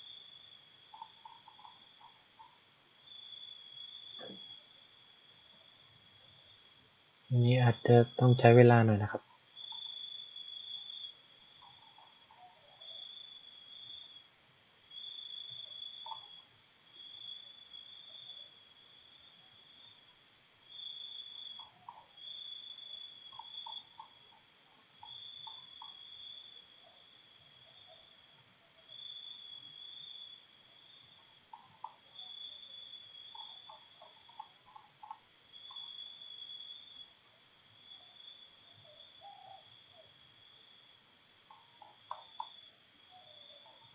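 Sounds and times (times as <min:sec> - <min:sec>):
constant high insect buzz: 0:00.0 - 0:43.9
insects chirping trill: 0:00.0 - 0:43.9.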